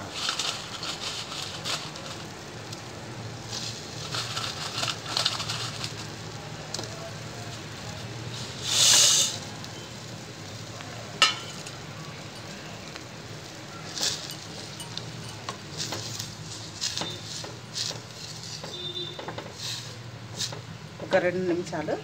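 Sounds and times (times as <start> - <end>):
loud hiss: 0.0 - 21.0
noodles bubbling in boiling water: 0.0 - 22.0.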